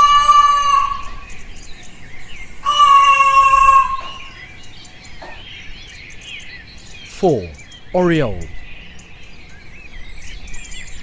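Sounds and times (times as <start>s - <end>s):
faint birds chirping: 0.9s - 3.1s, 3.7s - 11.0s.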